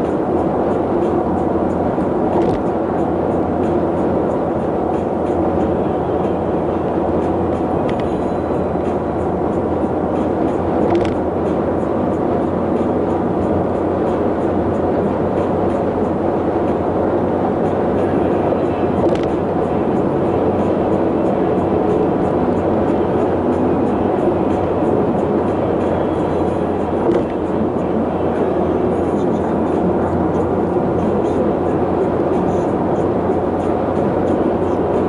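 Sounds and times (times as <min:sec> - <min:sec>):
vehicle rumble on road: 0:00.0 - 0:35.0.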